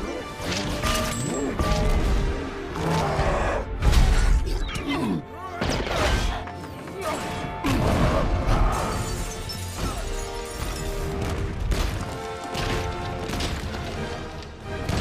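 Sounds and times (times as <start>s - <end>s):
action film music: 0.0s - 15.0s.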